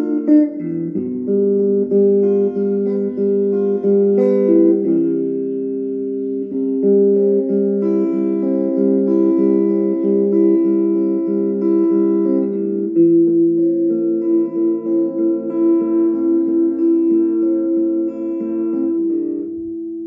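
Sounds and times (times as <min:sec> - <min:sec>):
plucked string music: 0:00.0 - 0:20.0.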